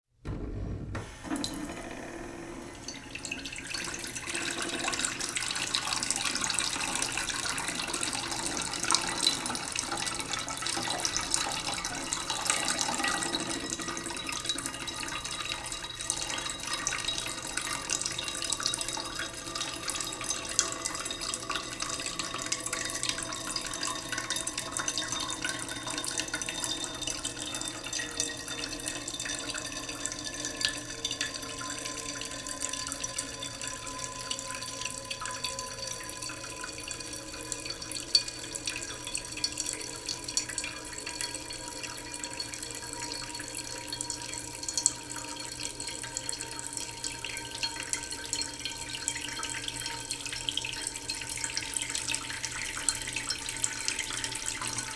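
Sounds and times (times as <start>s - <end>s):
tap water running into a pot: 0.9s - 54.9s.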